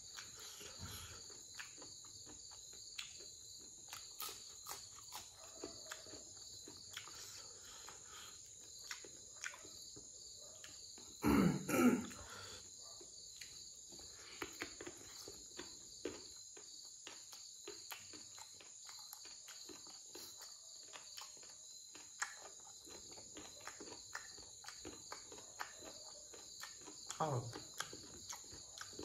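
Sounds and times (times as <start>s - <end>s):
chewing and lip smacking: 0.0s - 11.2s, 12.1s - 29.0s.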